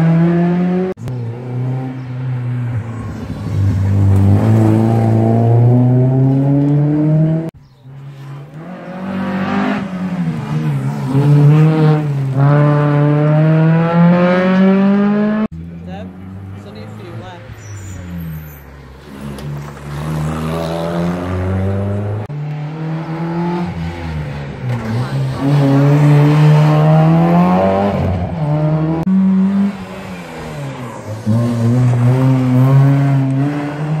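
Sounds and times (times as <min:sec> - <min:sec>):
rally car engine accelerating: 0:00.0 - 0:15.5, 0:19.0 - 0:34.0
rally car slowing and accelerating: 0:00.0 - 0:34.0.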